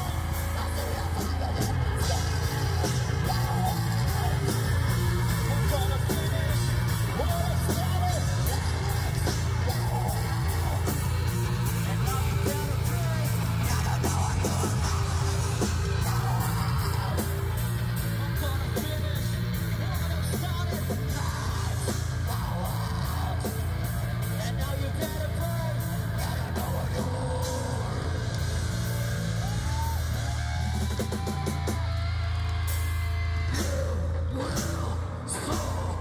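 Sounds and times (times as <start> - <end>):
heavy metal band playing live: 0.0 - 36.0.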